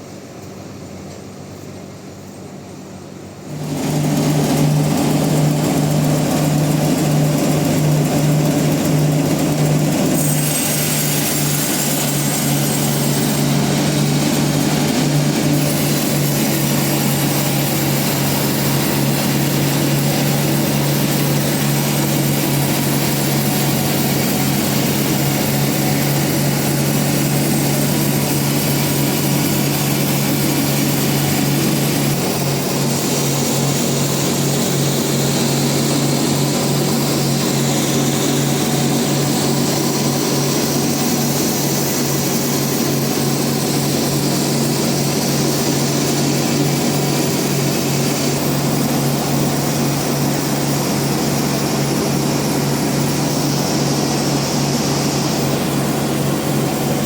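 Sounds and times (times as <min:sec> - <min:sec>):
bandsaw mill humming: 0:03.4 - 0:57.0.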